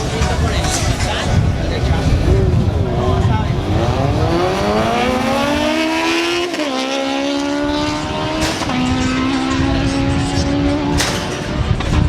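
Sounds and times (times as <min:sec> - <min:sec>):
superbike engine at full throttle: 0:00.0 - 0:12.0.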